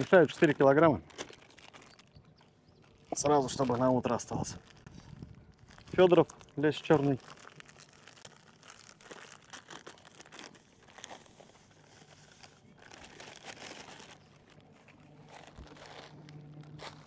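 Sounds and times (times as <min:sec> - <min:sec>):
plastic packet crinkling: 0:00.0 - 0:17.0.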